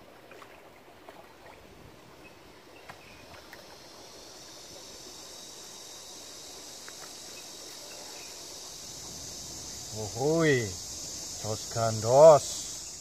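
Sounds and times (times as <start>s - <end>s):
insects chirring: 1.4s - 13.0s.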